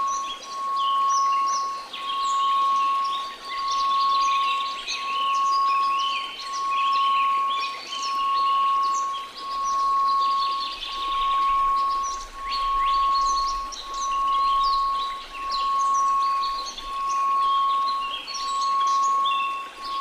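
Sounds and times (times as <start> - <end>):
birdsong chirps: 0.0 - 20.0
pulsing pure tone: 0.0 - 20.0
soft hiss: 0.0 - 20.0.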